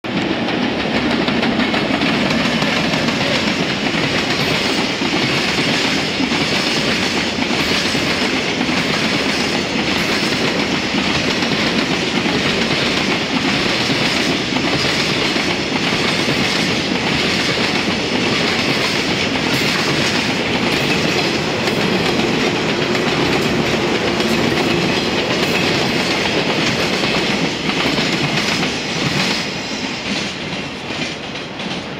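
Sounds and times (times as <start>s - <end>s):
train wheels clicking over rail joints: 0.0s - 31.9s.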